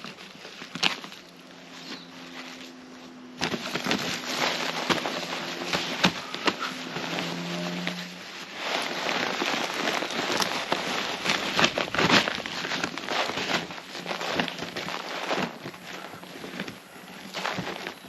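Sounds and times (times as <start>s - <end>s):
grow bag rustling: 0.0s - 18.0s
soil pattering onto tarpaulin: 0.0s - 18.0s.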